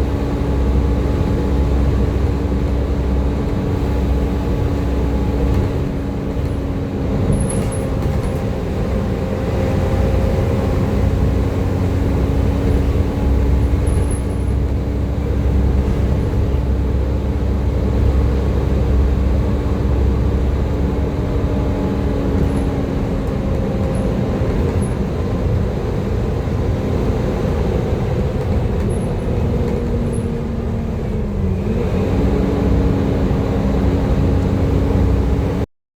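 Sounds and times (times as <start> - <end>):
bus engine rumble: 0.0 - 35.7
bus whine: 0.0 - 35.7.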